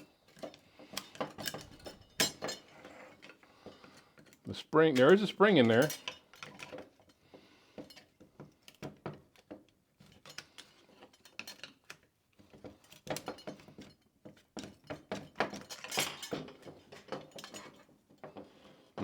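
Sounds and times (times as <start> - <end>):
metal parts clicking and clinking: 0.0 - 7.1, 7.8 - 13.9, 14.6 - 17.9.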